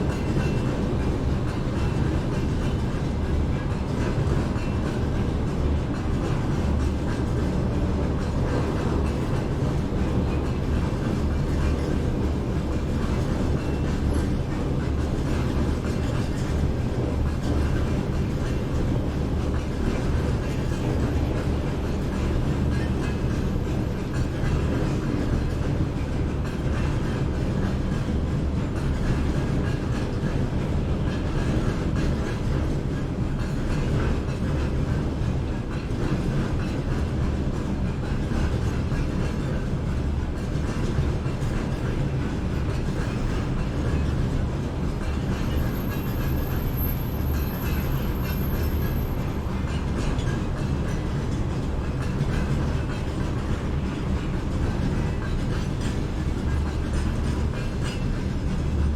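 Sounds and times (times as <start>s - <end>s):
train running on tracks: 0.0s - 58.9s.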